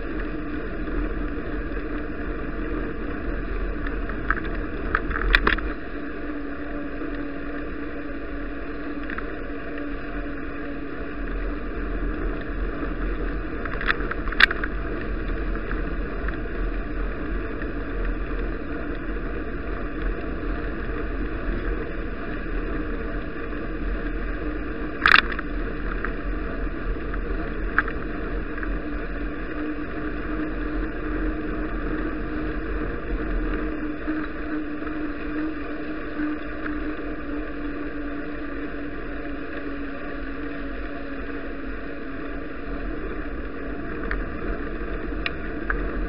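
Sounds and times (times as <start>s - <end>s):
faint steady hum: 0.0s - 46.0s
wind and road noise: 0.0s - 46.0s.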